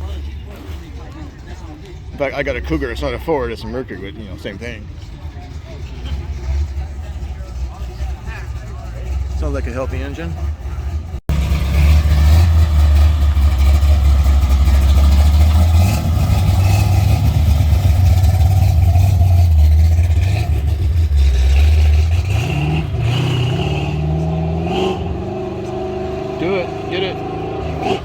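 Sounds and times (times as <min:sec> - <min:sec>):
car engine exhaust rumble: 0:00.0 - 0:28.0.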